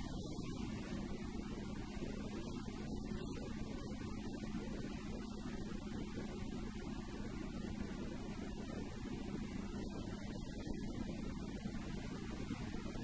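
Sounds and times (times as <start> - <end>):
road rumble: 0.0 - 13.0
two-stroke engine droning: 0.0 - 13.0.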